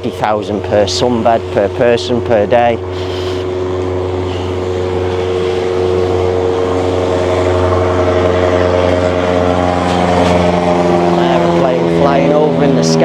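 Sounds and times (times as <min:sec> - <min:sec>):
motor engine droning: 0:00.0 - 0:13.0.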